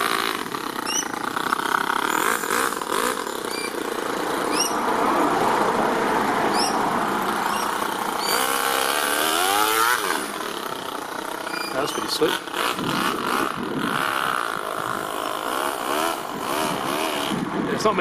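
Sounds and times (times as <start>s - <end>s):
model nitro engine running: 0.0s - 5.6s, 6.4s - 18.0s.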